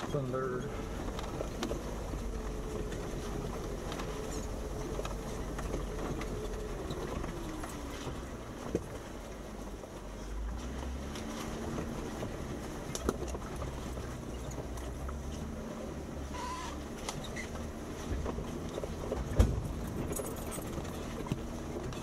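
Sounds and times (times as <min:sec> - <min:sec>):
vehicle knocks and clunks: 0:00.0 - 0:09.2, 0:10.6 - 0:15.6, 0:16.4 - 0:22.0
car engine at low revs: 0:00.0 - 0:22.0.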